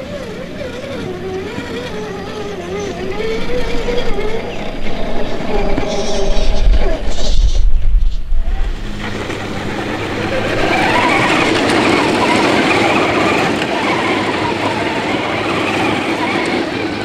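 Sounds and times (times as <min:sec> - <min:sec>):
electric motor and gear whine: 0:00.0 - 0:17.0.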